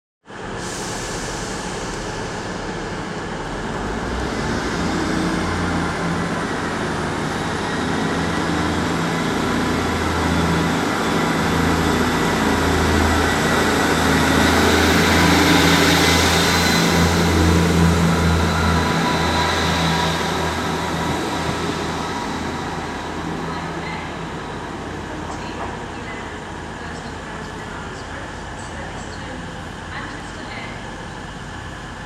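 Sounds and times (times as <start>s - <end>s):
diesel train engines throbbing: 0.3s - 32.0s.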